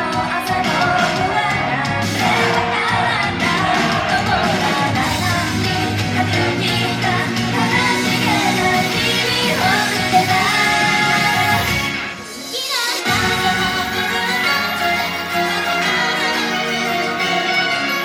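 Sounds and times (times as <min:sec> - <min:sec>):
group singing over pop backing track: 0:00.0 - 0:18.0.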